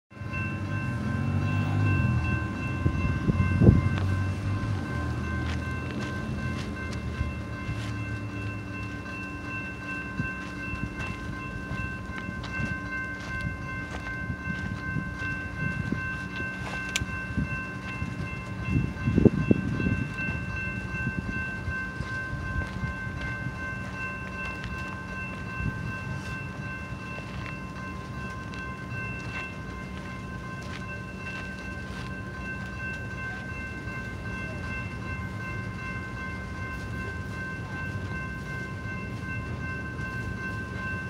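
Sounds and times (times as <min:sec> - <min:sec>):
train wheels rumbling: 0:00.1 - 0:41.0.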